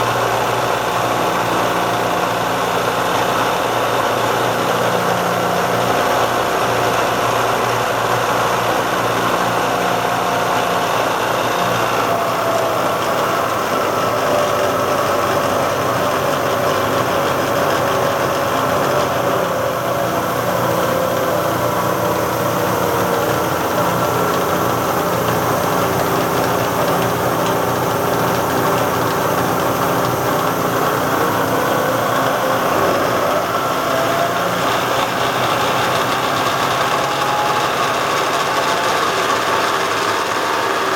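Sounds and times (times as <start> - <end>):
milling machine running: 0.0 - 40.9.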